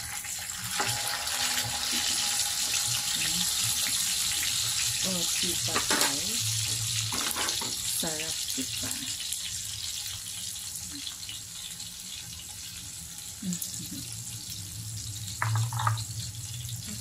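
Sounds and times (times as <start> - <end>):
meat sizzling in a grill pan: 0.0 - 17.0.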